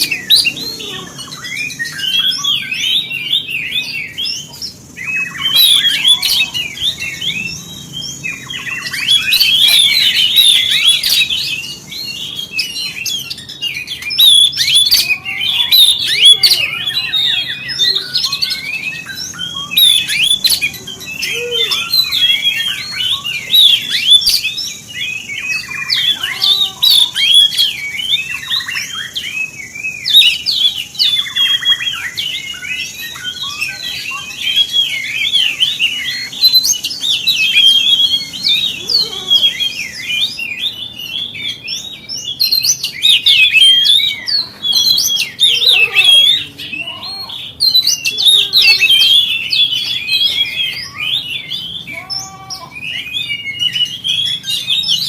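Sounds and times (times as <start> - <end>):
bird singing varied whistles: 0.0 - 55.0.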